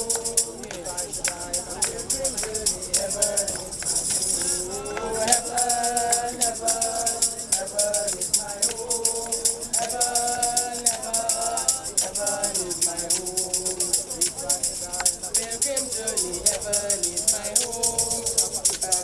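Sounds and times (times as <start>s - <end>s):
group singing gospel: 0.0s - 19.0s
hand percussion rattling: 0.0s - 19.0s.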